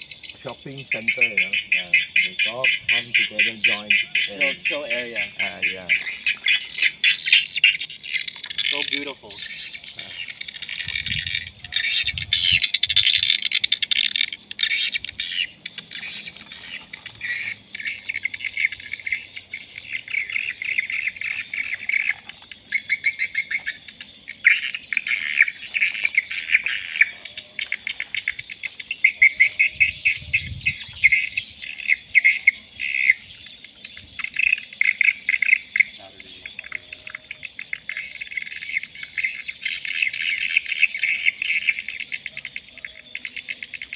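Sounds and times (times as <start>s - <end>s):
swiftlets twittering: 0.4s - 43.9s.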